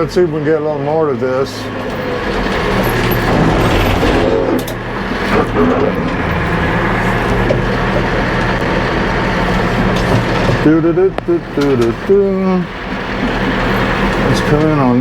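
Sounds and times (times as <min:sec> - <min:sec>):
tractor engine under load: 0:00.0 - 0:15.0
knocks and clunks: 0:01.5 - 0:15.0.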